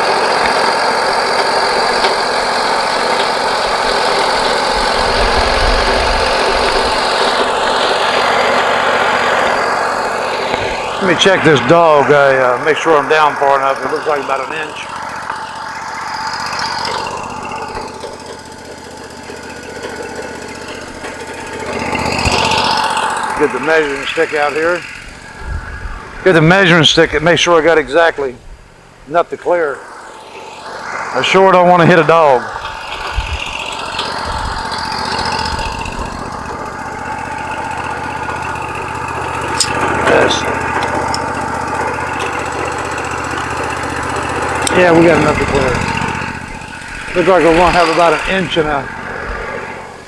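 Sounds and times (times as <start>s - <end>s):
sawmill engine idling: 0.0s - 50.0s.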